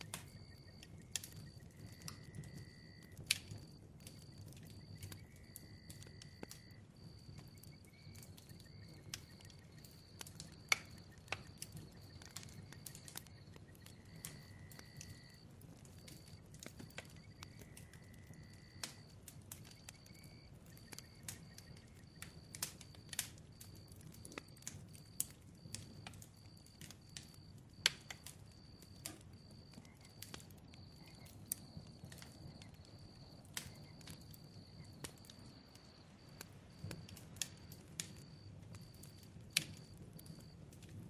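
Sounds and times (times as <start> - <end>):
bonfire crackling: 0.0 - 41.0.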